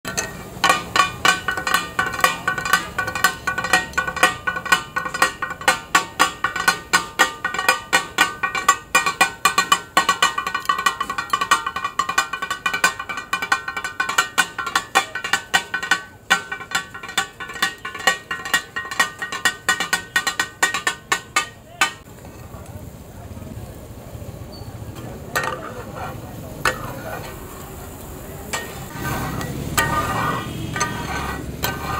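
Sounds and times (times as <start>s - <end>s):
food sizzling: 0.0s - 31.9s
metal spatulas clacking on griddle: 0.1s - 22.4s, 25.0s - 27.7s, 28.4s - 31.9s.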